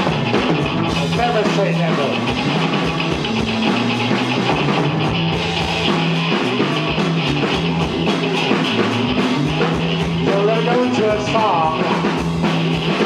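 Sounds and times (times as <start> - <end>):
bass notes: 0.0 - 13.0
drum kit beat: 0.0 - 13.0
electric guitar: 0.0 - 13.0.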